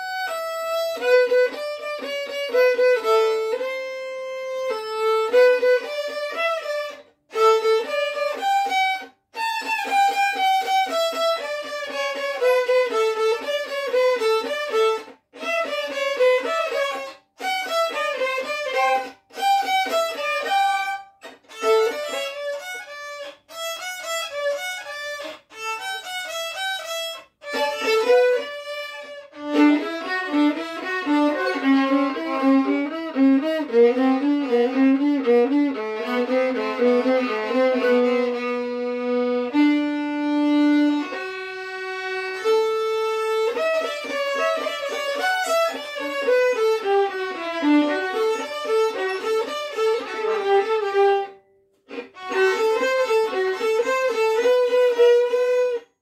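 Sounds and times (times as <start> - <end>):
violins playing: 0.0 - 56.0.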